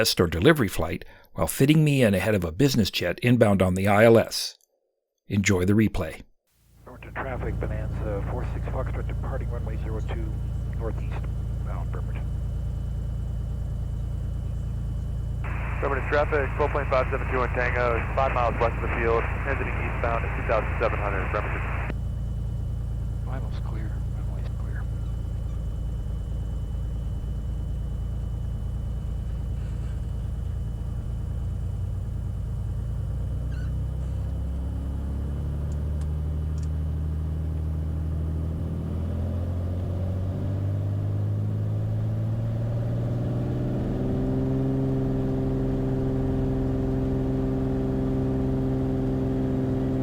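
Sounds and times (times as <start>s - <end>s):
propeller plane engine running up: 6.9s - 50.0s.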